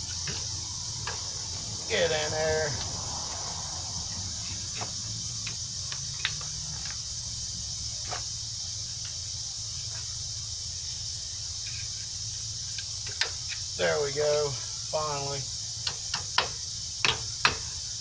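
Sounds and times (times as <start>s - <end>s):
high hiss: 0.0s - 18.0s
steady low hum: 0.0s - 18.0s.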